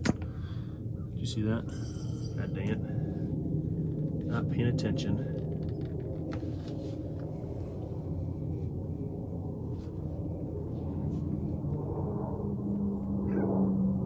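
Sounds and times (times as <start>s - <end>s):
low mechanical rumble with hum: 0.0s - 14.0s.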